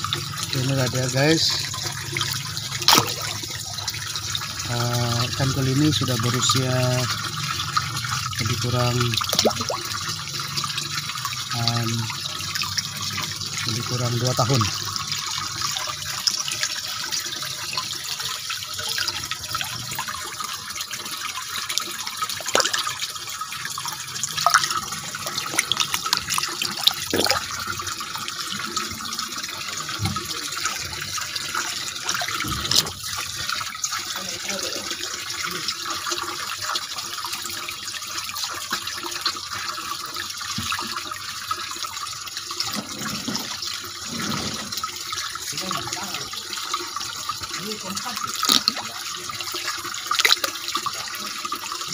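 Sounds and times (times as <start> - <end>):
water splashing into tank: 1.6 - 34.5, 37.2 - 51.9.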